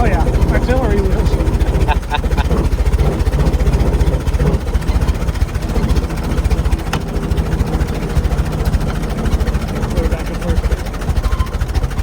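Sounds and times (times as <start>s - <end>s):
race car engine pulsing: 0.0s - 12.0s.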